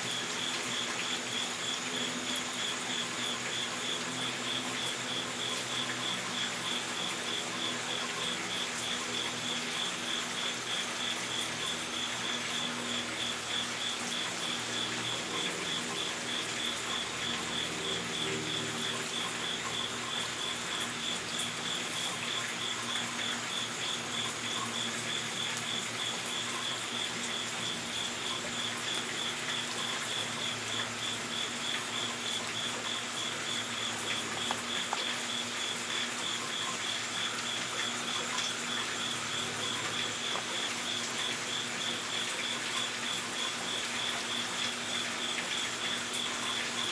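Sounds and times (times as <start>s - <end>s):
insect chirping: 0.1s - 46.9s.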